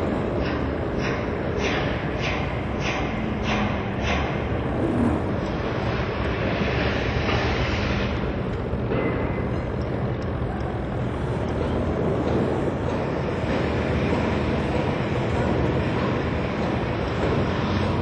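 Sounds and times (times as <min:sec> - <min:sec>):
mechanical drone: 0:00.0 - 0:18.0.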